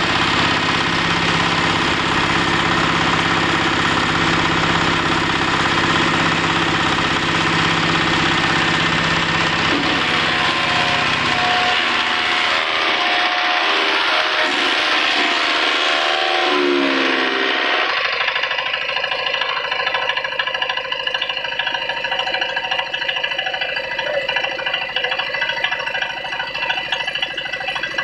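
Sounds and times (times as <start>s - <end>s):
higher noisy machine sound: 0.0s - 28.0s
wood chipper engine running: 0.0s - 28.0s.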